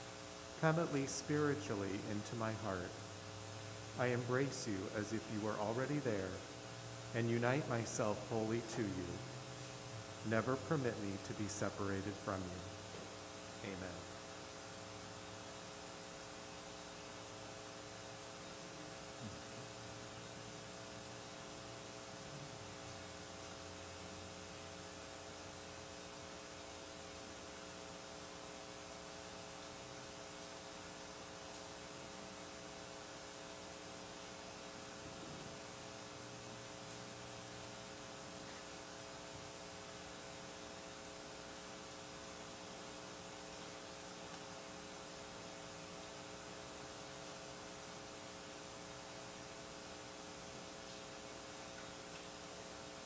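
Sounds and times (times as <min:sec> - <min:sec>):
electrical hum: 0:00.0 - 0:53.0
steady hiss: 0:00.0 - 0:53.0.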